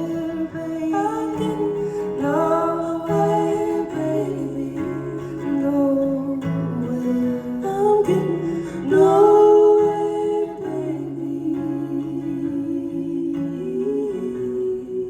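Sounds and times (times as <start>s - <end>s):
acoustic guitar: 0.0s - 15.0s
women singing wordless harmony: 0.0s - 15.0s.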